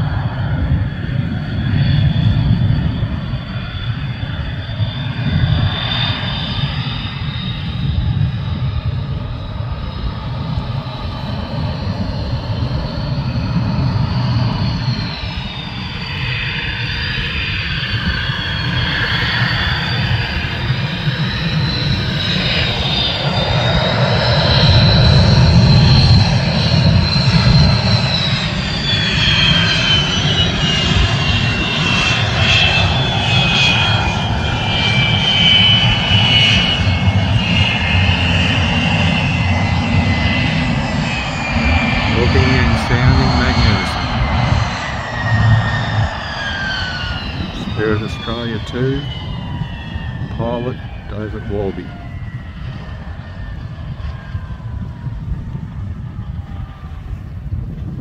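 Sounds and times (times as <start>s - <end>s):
jet engine whine and rumble: 0.0s - 58.0s.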